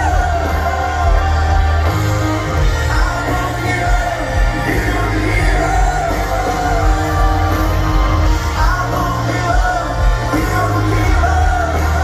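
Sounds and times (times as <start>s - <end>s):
live rock band with singer: 0.0s - 12.0s.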